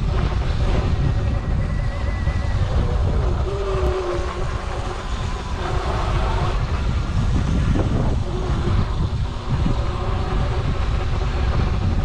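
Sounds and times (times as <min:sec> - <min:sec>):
electric motor whine: 0:00.0 - 0:12.0
low rumble of dirt bike: 0:00.0 - 0:12.0
wind buffeting microphone: 0:00.0 - 0:12.0.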